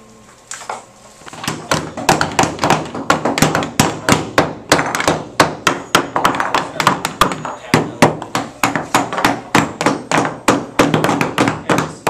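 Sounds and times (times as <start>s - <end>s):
hammers driving nails into wood: 1.3s - 12.0s.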